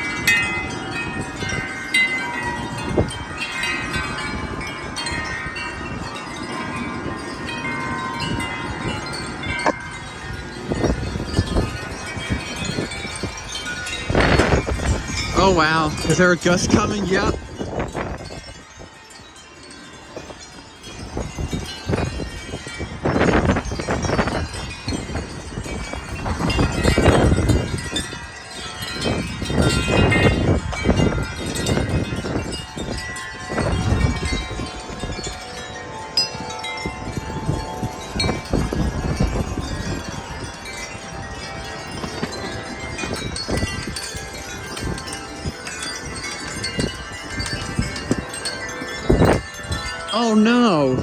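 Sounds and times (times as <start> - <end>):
wind buffeting microphone: 0.0 - 50.1
wind chimes ringing: 0.0 - 51.0.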